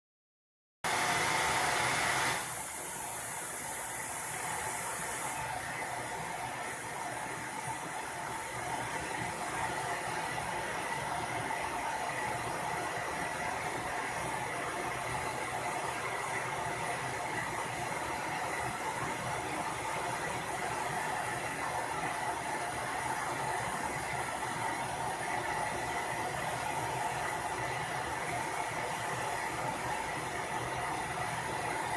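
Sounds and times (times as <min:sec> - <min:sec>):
television static hiss: 0:00.9 - 0:31.9.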